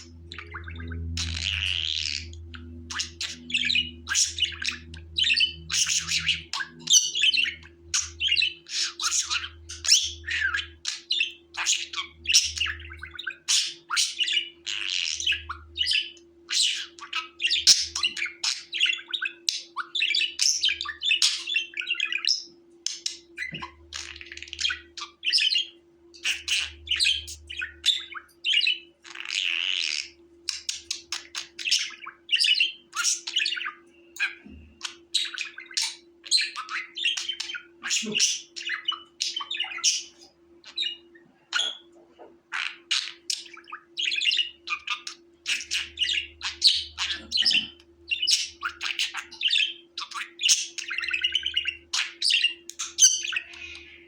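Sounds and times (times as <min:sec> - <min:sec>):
budgerigar chattering: 0:00.0 - 0:54.0
faint low hum: 0:00.0 - 0:54.0.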